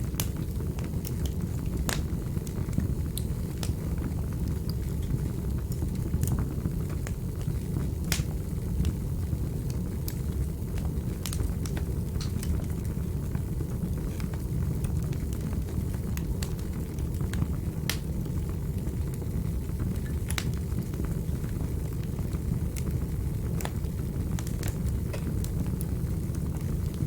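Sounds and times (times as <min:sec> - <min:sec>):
fire crackling and popping: 0:00.0 - 0:27.0
fire rumbling: 0:00.0 - 0:27.0.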